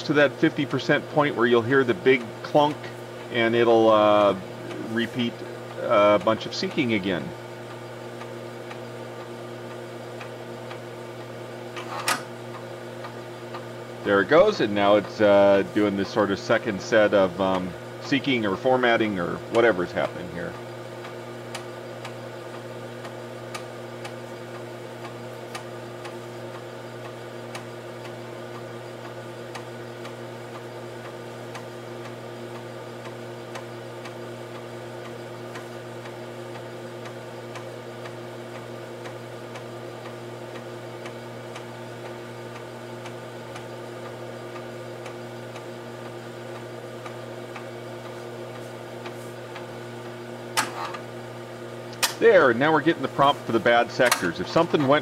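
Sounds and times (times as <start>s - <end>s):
floppy drive head ticking: 0.0s - 55.0s
mechanical hum: 0.0s - 55.0s.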